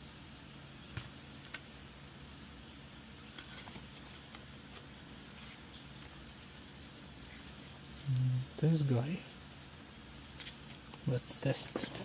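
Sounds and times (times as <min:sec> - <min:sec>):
room tone hum and hiss: 0:00.0 - 0:12.0.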